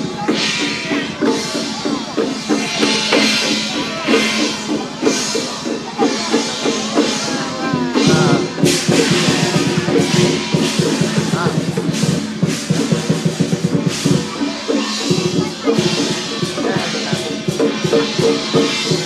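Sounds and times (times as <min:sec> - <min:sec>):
drum and clashing cymbals: 0:00.0 - 0:19.0.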